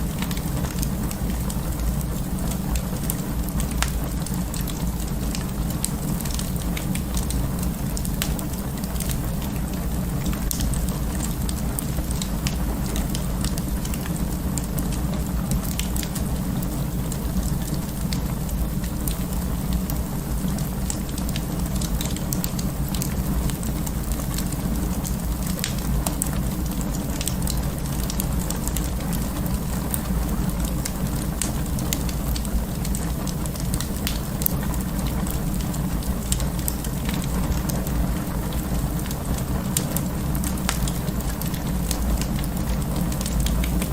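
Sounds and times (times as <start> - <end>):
fire popping and snapping: 0.0 - 43.9
low rush of flames: 0.0 - 43.9
wood fire crackling: 0.0 - 43.9.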